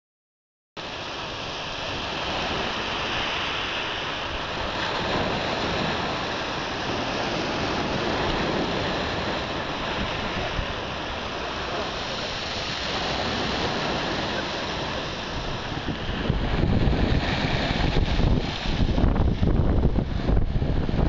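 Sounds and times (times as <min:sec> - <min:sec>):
sea surf breaking: 0:00.8 - 0:21.0.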